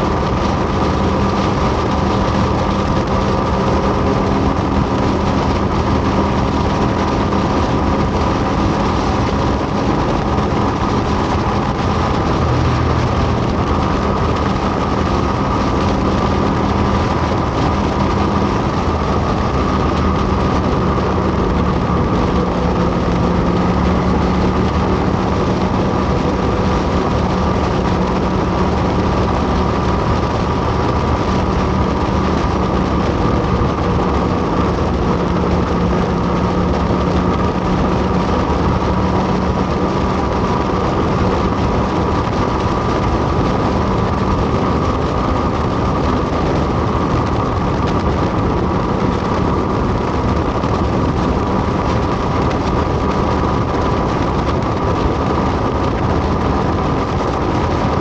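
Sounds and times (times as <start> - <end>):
motorcycle engine running steadily: 0.0 - 58.0
rushing noise: 0.0 - 58.0.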